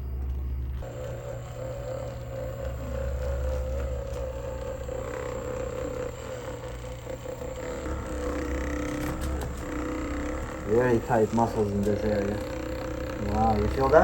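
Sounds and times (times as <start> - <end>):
electric massager whining: 0.0 - 14.0.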